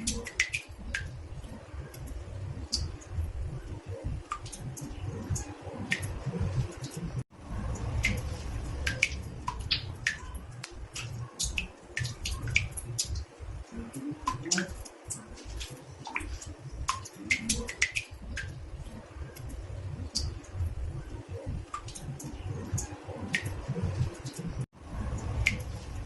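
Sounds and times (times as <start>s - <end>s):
water drops dripping into bathtub: 0.0s - 26.0s.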